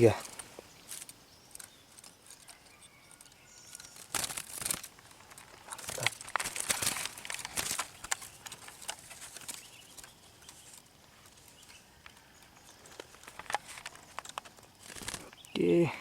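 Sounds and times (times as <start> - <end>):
rustling: 0.0 - 15.5.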